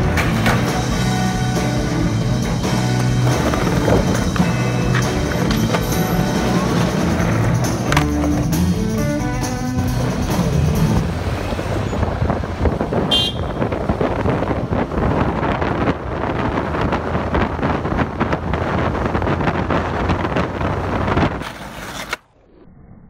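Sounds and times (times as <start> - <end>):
skateboard wheels rumbling on asphalt: 0.0 - 22.4
wind buffeting microphone: 1.8 - 9.0, 10.1 - 21.5.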